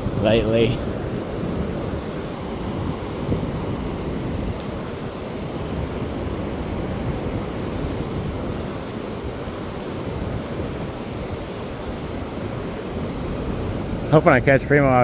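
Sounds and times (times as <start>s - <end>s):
ocean surf: 0.0s - 15.0s
wind rumbling on microphone: 0.0s - 15.0s.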